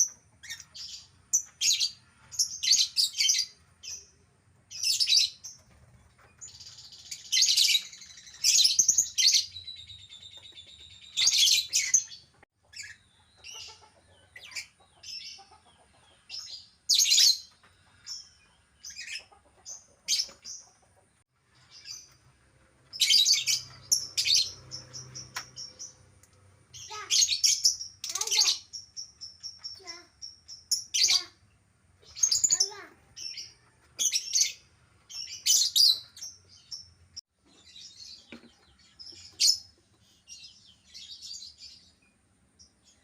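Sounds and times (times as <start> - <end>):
lovebirds chirping: 0.0 - 43.0.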